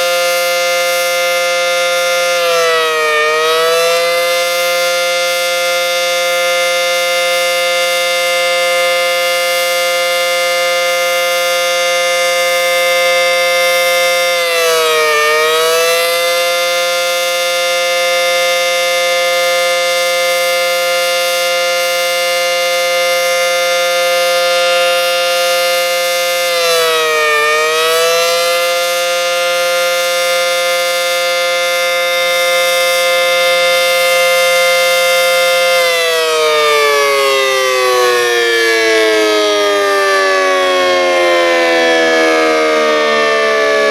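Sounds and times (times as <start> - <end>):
outdoor warning siren: 0.0 - 43.9.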